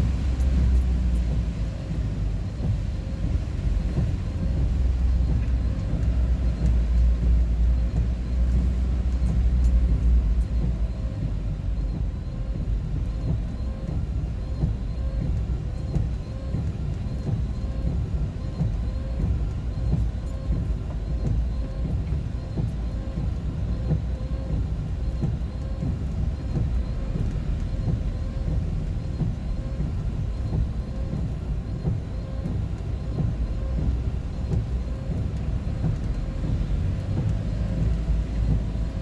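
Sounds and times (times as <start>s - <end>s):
vehicle engine and tyre noise: 0.0s - 39.0s.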